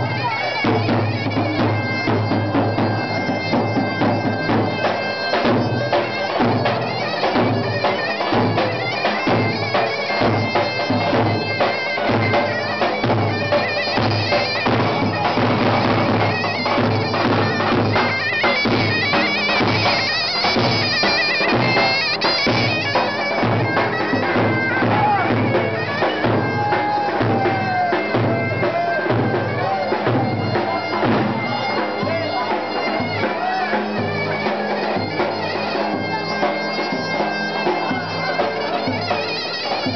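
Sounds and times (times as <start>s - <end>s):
zurna melody: 0.0s - 39.9s.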